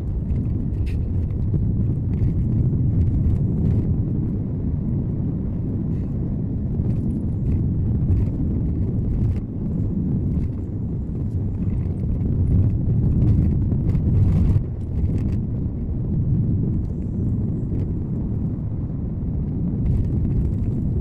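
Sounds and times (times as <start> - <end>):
road and engine noise in car: 0.0 - 21.0.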